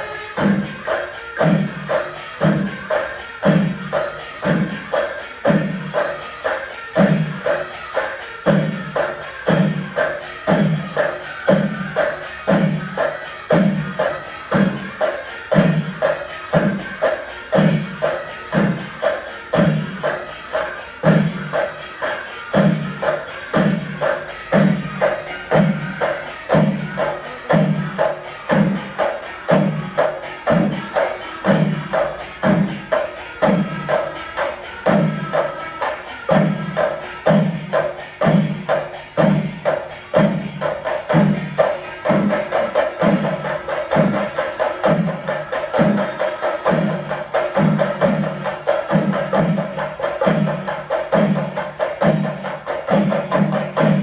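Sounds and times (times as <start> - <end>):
clashing cymbals: 0.0 - 54.0
drums beating fast: 0.0 - 54.0.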